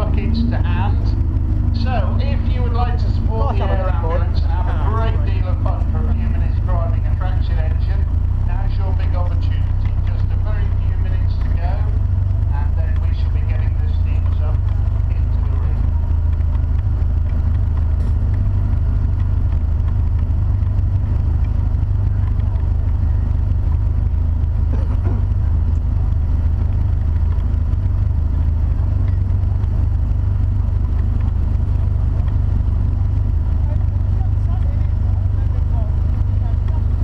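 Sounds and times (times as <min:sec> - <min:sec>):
car engine running low rumble: 0:00.0 - 0:37.0.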